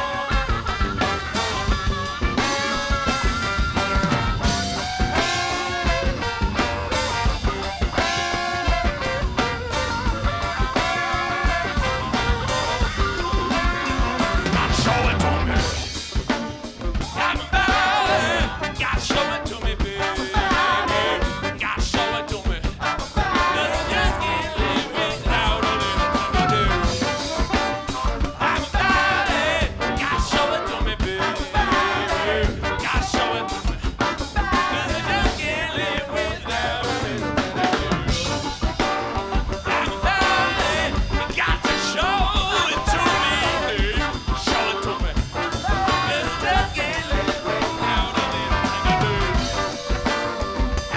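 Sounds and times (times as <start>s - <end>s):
live funk band playing: 0.0s - 50.9s
steady drum beat: 0.0s - 50.9s.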